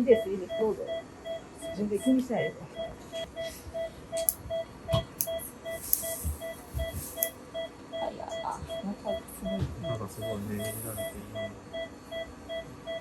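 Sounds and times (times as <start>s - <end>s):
patient monitor beeping: 0.0s - 13.0s.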